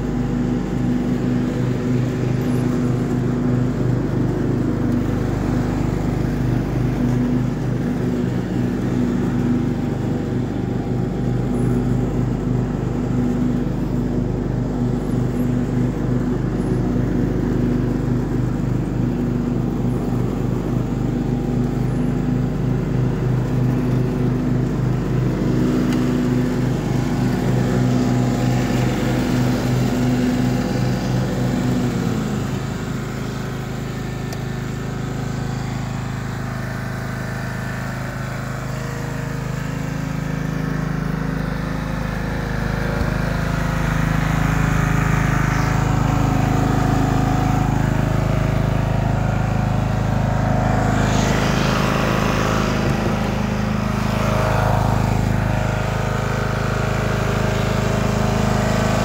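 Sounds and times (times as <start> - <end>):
ride-on mower engine running: 0.0 - 59.0.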